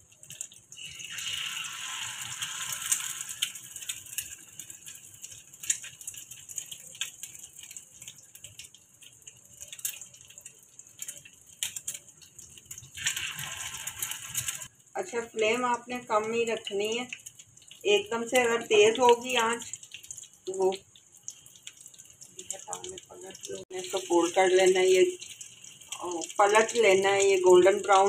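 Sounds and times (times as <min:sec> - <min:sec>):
food sizzling in hot oil: 0:00.0 - 0:28.0.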